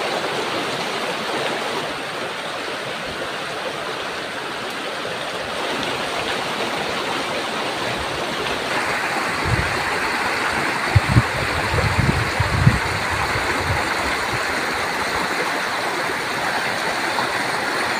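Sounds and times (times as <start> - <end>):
river water rushing: 0.0 - 17.9.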